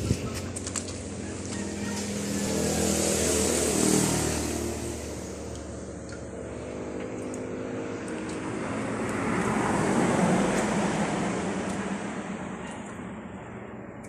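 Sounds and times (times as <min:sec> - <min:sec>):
low engine hum: 0:00.0 - 0:14.0
passing motor vehicle: 0:00.0 - 0:14.0.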